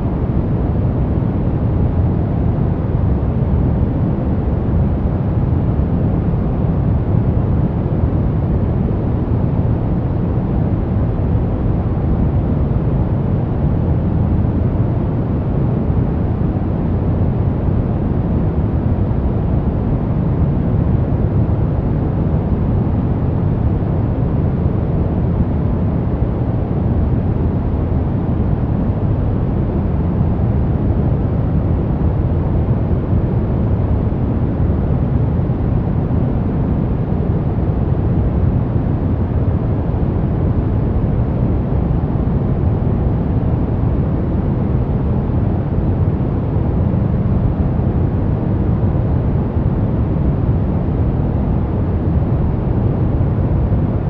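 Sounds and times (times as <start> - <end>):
deep white noise hiss: 0.0 - 54.0.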